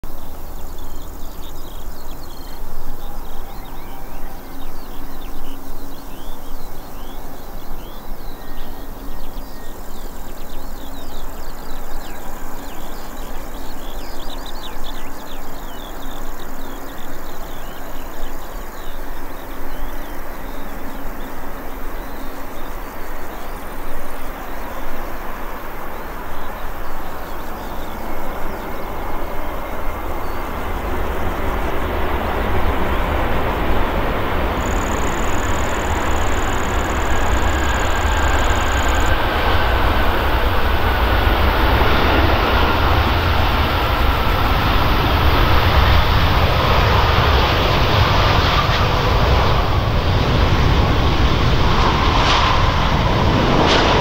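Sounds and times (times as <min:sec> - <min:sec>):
approaching jet: 0:00.0 - 0:54.0.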